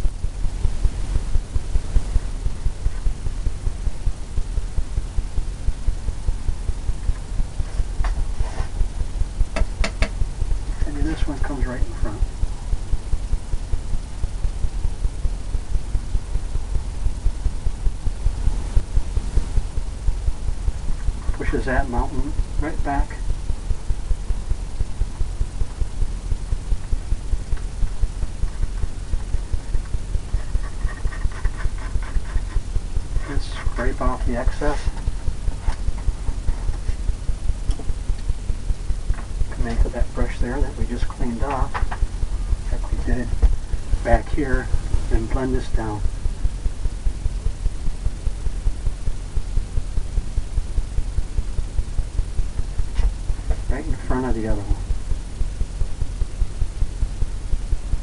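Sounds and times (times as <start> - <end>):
pulsing low hum: 0.0 - 58.0.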